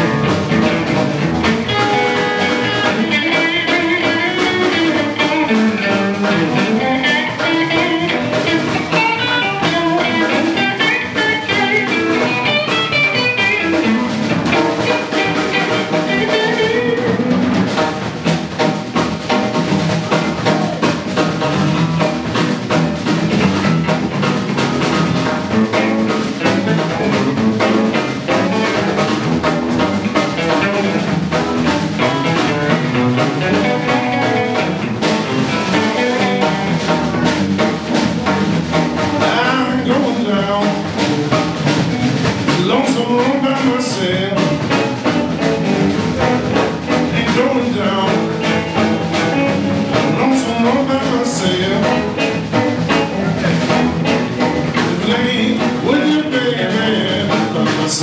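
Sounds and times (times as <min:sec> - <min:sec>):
live blues band: 0:00.0 - 0:58.0.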